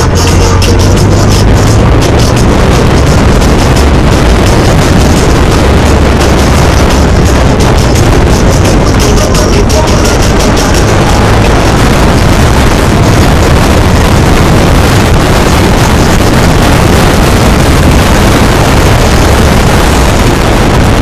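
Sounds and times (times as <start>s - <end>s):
distorted car interior noise: 0.0s - 21.0s.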